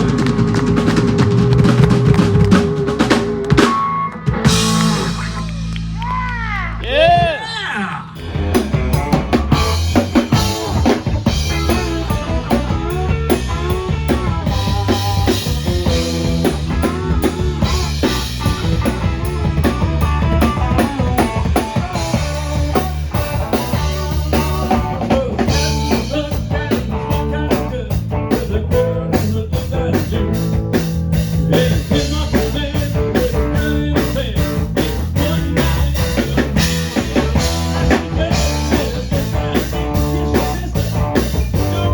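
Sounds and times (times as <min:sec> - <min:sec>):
bass guitar: 0:00.0 - 0:41.9
drum kit beat: 0:00.0 - 0:41.9
electric guitar: 0:00.0 - 0:41.9.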